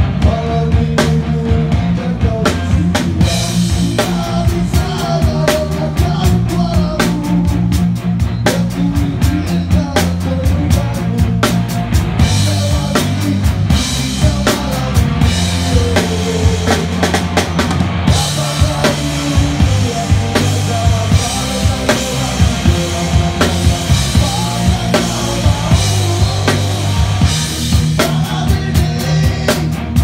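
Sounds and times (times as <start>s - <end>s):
live band playing: 0.0s - 30.0s.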